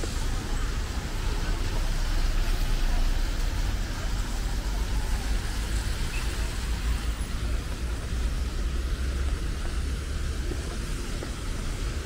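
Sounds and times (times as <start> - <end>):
low rumble of passing vehicles: 0.0 - 12.0
tyres hissing on wet road: 0.0 - 12.0.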